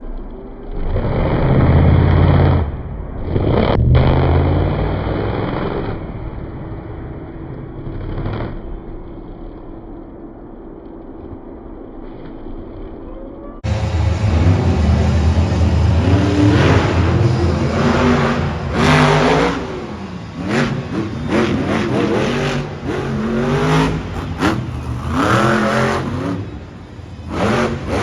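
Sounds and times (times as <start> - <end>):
monster truck engine revving: 0.6 - 9.7, 13.6 - 28.0.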